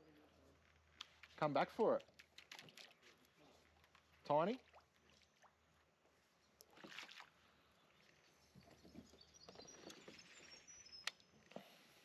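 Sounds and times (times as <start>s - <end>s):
faint water sounds from kayak: 0.5s - 12.0s.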